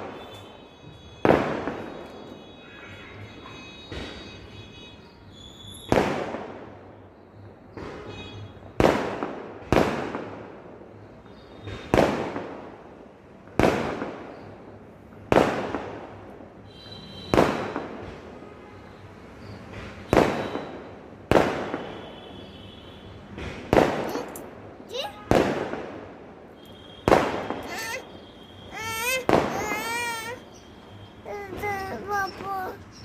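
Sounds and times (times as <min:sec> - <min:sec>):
fireworks bangs echoing: 0:00.0 - 0:02.5, 0:05.8 - 0:06.8, 0:07.7 - 0:18.4, 0:19.7 - 0:22.6, 0:23.3 - 0:33.0.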